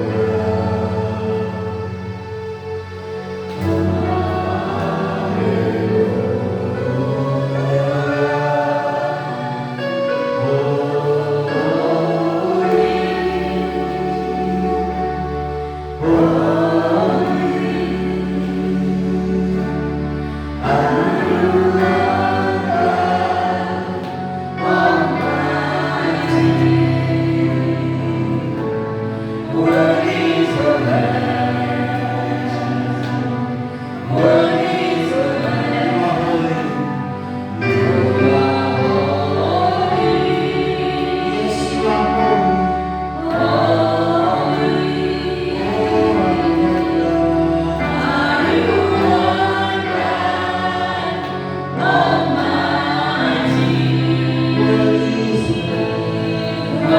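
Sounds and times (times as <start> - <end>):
choir singing gospel: 0.0 - 56.9.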